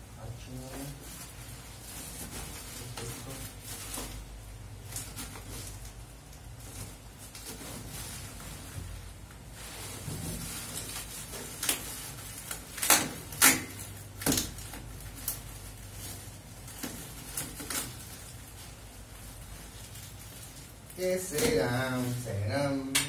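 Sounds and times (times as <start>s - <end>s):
bubble wrap and cardboard crinkling: 0.1s - 23.0s.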